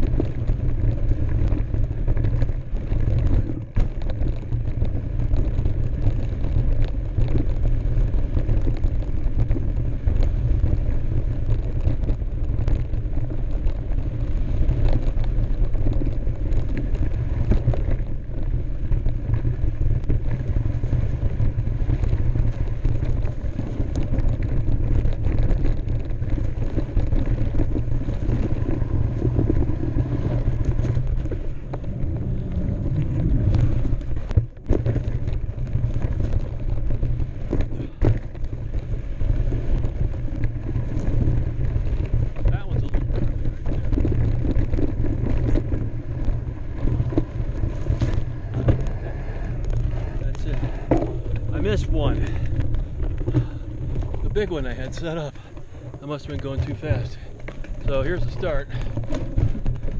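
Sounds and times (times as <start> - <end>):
bike clicks and knocks: 0.0 - 59.9
wind buffeting microphone: 0.0 - 59.9.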